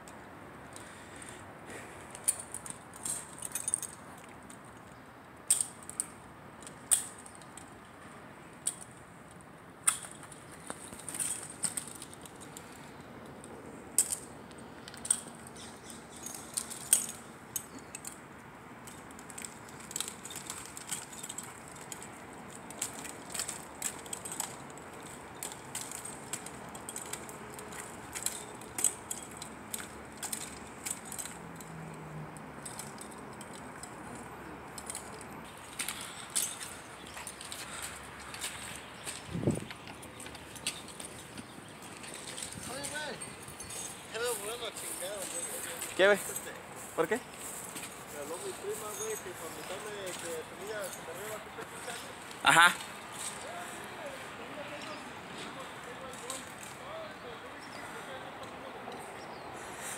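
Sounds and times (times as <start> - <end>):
metallic harness clicks and jangling: 0.2 - 8.0, 8.6 - 56.8.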